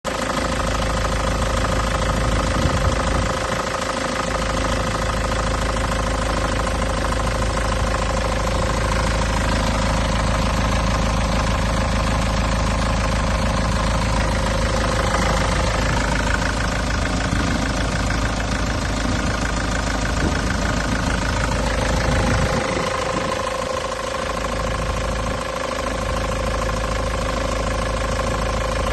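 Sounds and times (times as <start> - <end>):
diesel truck engine idling: 0.1 - 28.9.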